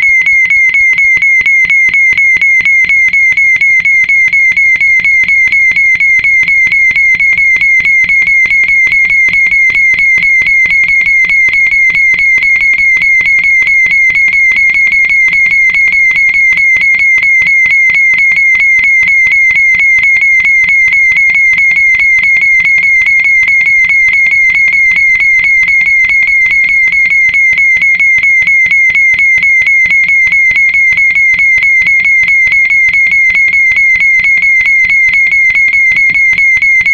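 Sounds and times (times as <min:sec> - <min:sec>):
fire alarm horn pulsing: 0:00.0 - 0:36.9.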